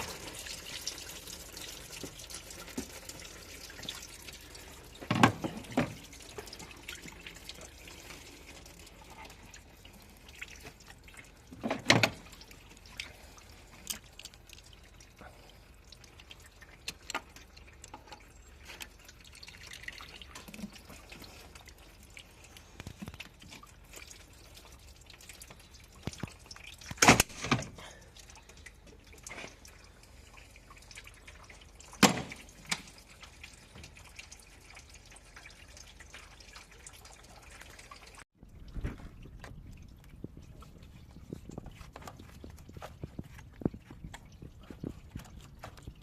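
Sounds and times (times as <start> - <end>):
liquid dripping: 0.0 - 46.0.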